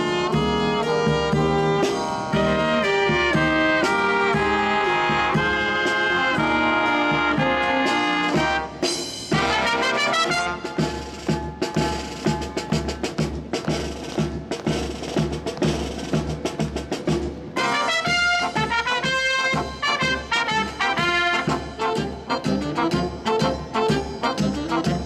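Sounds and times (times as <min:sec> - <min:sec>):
brass band playing: 0:00.0 - 0:16.7, 0:17.4 - 0:25.0
drums beating: 0:00.0 - 0:25.0.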